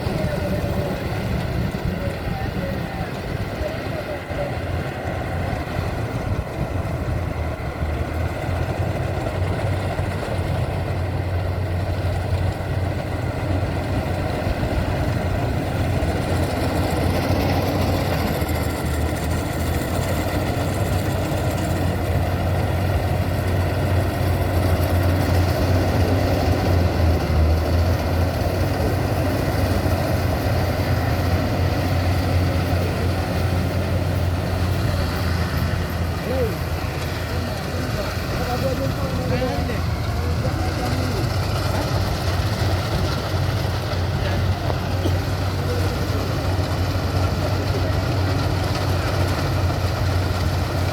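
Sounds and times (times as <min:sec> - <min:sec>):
combine harvester engine hum: 0:00.0 - 0:50.9.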